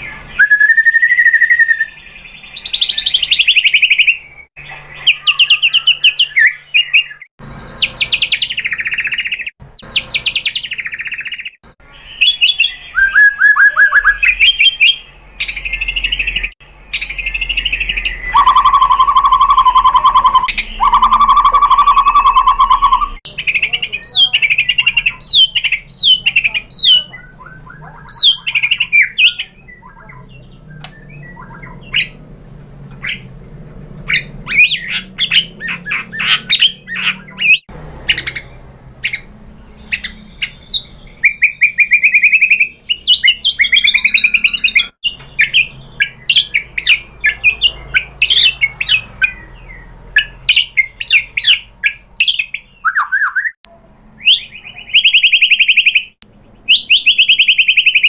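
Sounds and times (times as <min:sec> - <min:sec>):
bird singing whistles and trills: 0:00.0 - 0:32.2, 0:34.1 - 0:53.6, 0:54.2 - 0:58.0.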